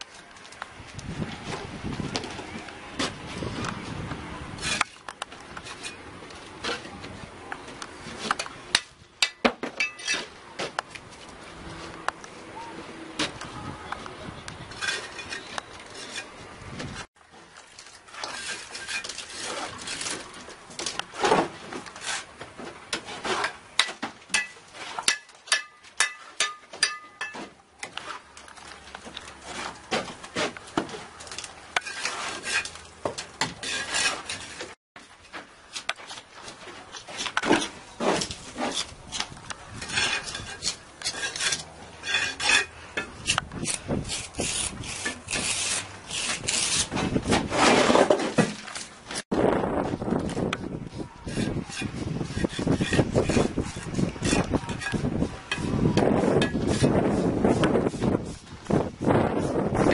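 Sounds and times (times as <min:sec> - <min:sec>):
trowel scraping bricks and mortar: 0:03.0 - 0:12.1, 0:14.6 - 0:59.9.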